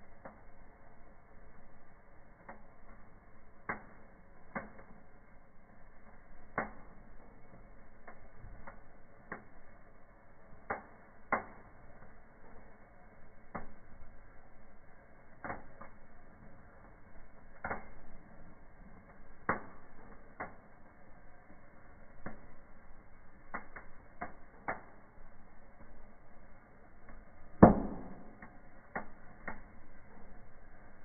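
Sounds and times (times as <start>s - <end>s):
burning wood crackling and popping: 0.0s - 31.0s.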